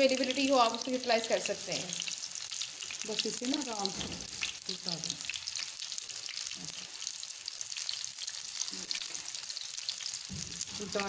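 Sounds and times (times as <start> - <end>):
food frying with crackling sizzle: 0.0 - 11.0.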